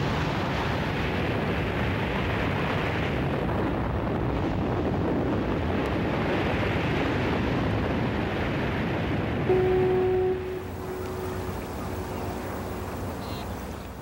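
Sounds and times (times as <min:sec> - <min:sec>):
big waves breaking: 0:00.0 - 0:14.0
wind: 0:00.0 - 0:14.0.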